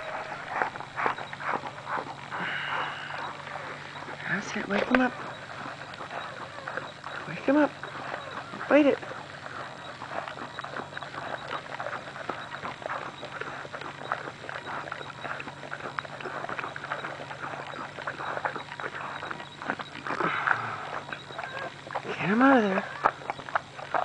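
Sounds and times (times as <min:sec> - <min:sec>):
dog licking wet smacking: 0:03.1 - 0:24.0.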